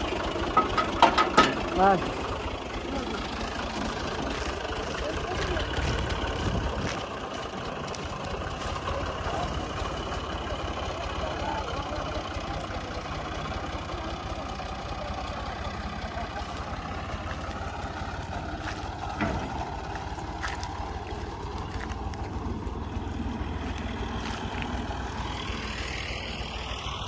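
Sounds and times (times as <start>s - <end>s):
combine harvester rumbling: 0.0s - 27.0s.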